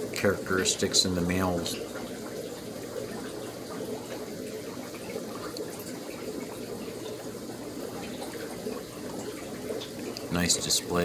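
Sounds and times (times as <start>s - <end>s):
aquarium filter water splashing: 0.0s - 11.0s.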